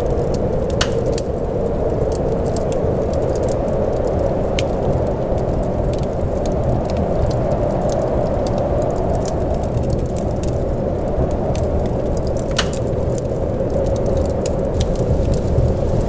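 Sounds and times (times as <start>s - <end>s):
sharp crackles and pops: 0.0s - 16.0s
steady rain: 0.0s - 16.0s.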